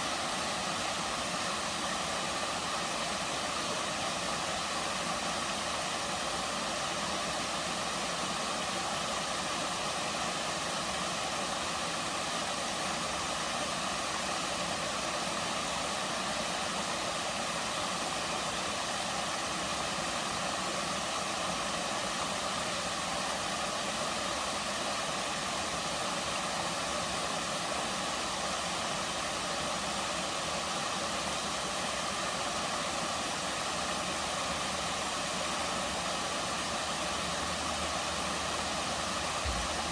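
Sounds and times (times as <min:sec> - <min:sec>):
waterfall pouring into pools: 0:00.0 - 0:39.9.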